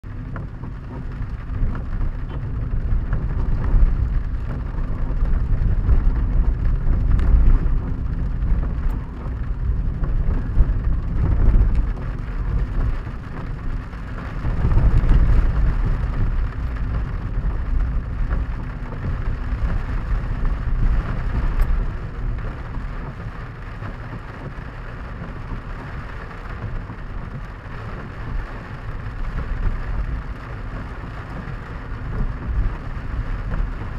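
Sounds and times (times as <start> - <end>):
car tyres on wet road: 0.0 - 33.9
rain on car roof: 0.0 - 33.9.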